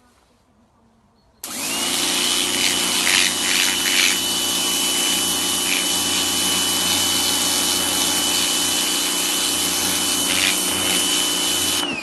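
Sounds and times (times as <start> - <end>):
electric motor whining: 1.4 - 12.0.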